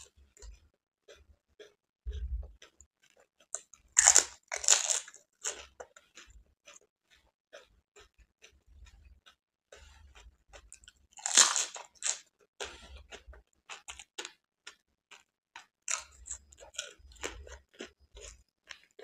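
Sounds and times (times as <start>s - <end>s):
crisp shells being bitten and chewed: 0.0s - 19.0s.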